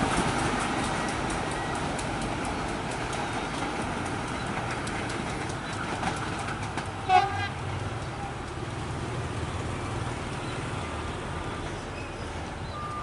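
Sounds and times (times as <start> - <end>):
rail joint clicks: 0.0 - 13.0
train wheels on rails: 0.0 - 13.0.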